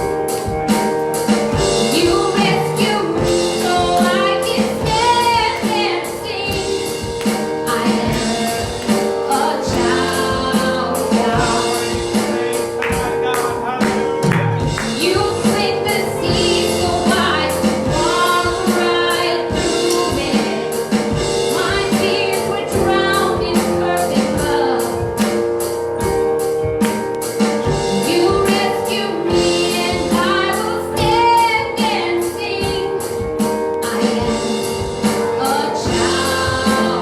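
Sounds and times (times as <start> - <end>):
worship band with singers: 0.0 - 37.0.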